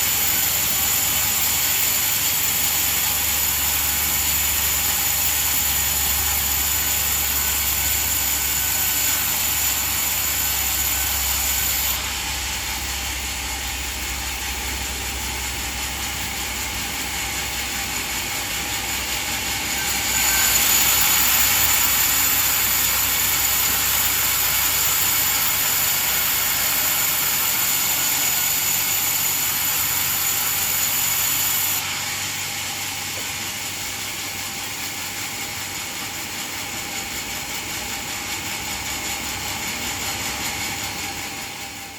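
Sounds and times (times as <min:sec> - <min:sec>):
high-pitched hiss: 0:00.0 - 0:34.6
band saw running: 0:00.0 - 0:41.9.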